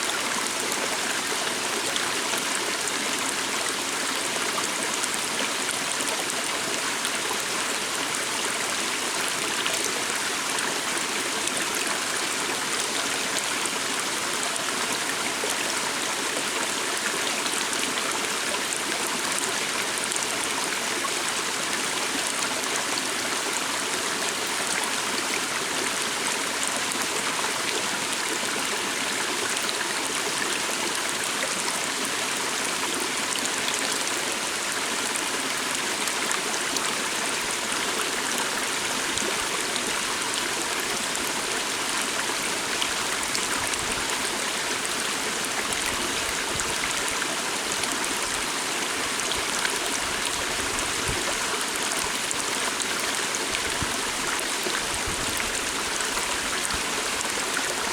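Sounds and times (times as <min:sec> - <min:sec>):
stream flowing: 0:00.0 - 0:57.9.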